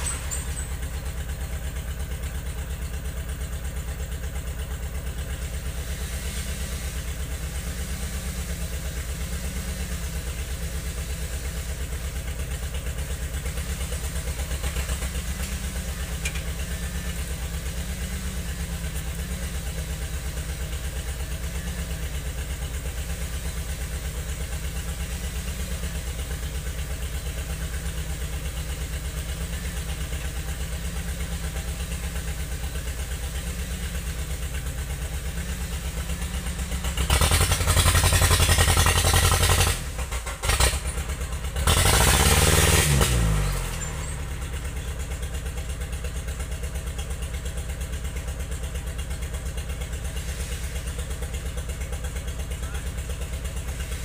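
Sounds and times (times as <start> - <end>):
machine engine idling and revving: 0.0 - 54.0.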